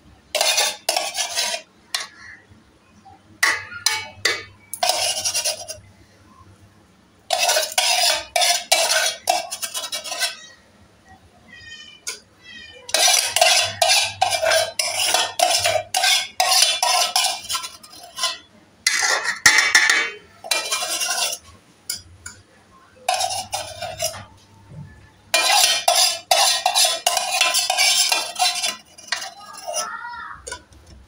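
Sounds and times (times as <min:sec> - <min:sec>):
metal spoon scraping a pot: 0:00.3 - 0:02.2, 0:03.4 - 0:05.9, 0:07.3 - 0:10.6, 0:12.0 - 0:12.2, 0:12.9 - 0:22.4, 0:23.0 - 0:30.7.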